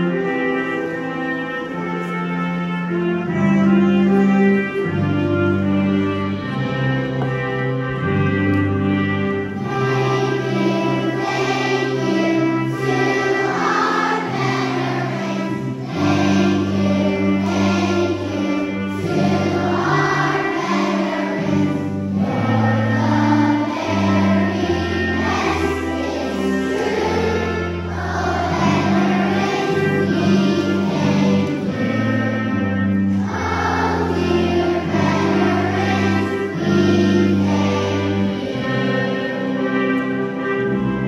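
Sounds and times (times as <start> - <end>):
children's choir singing: 0.0 - 41.0
instrumental held chords: 0.0 - 41.0.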